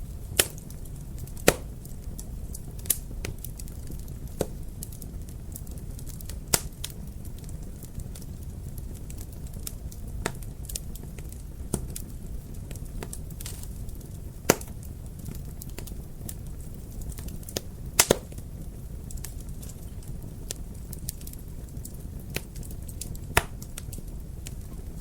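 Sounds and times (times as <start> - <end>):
wood fire crackling: 0.0 - 25.0
sharp pops of fire: 0.2 - 25.0.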